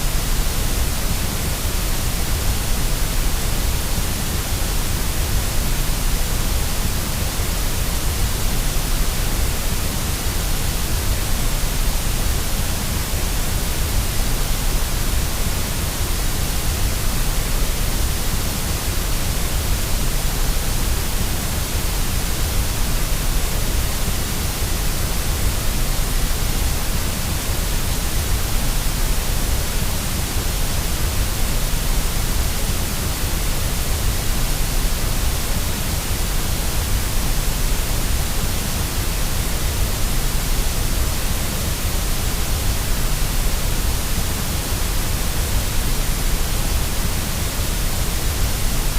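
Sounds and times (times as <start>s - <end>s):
white noise hiss: 0.0s - 48.9s.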